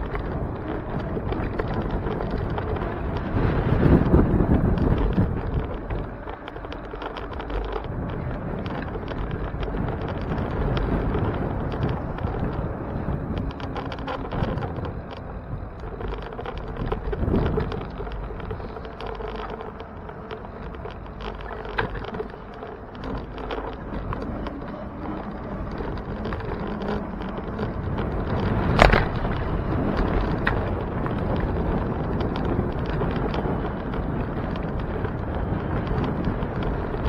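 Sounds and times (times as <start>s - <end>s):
bike rattles and clicks: 0.0s - 37.0s
road and wind noise: 0.0s - 37.0s.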